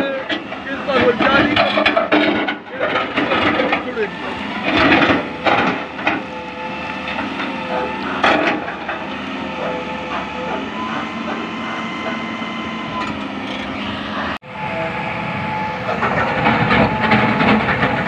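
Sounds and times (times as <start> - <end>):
excavator diesel engine under load: 0.0 - 18.0
hydraulics whining: 0.0 - 18.0.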